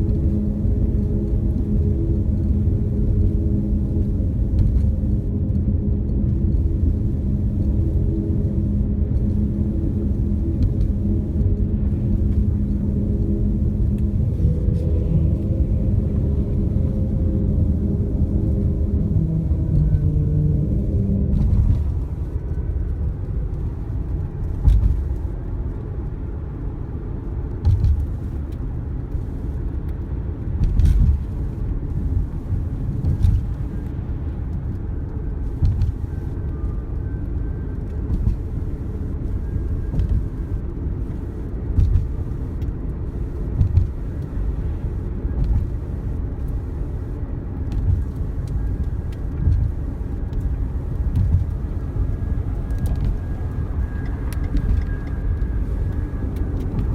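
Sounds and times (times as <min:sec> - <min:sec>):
road and wind rumble: 0:00.0 - 0:56.9.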